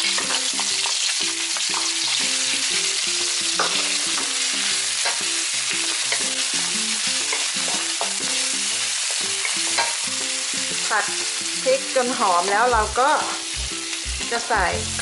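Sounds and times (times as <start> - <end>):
spatula scraping wok: 0.0 - 14.5
paste sizzling in hot oil: 0.0 - 15.0.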